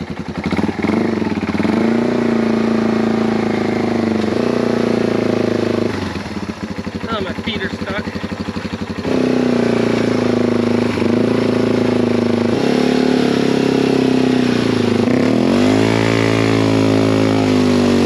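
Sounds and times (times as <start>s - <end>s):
motorbike engine revving high: 0.0s - 18.0s.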